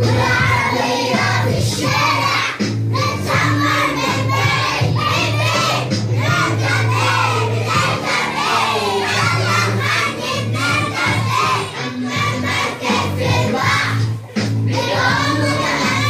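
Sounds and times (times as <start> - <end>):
backing music with bass: 0.0 - 16.0
children singing together: 0.0 - 16.0.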